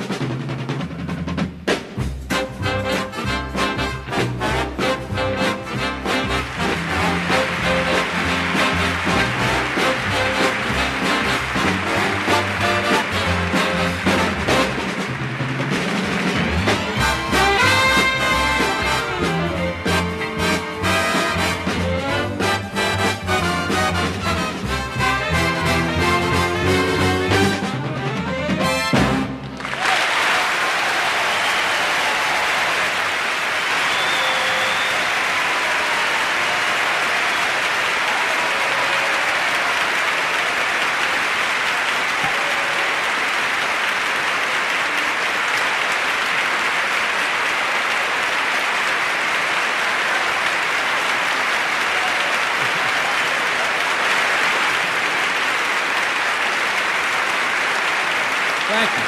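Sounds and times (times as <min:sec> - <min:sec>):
audience applauding: 0:02.3 - 0:27.9, 0:28.6 - 0:59.0.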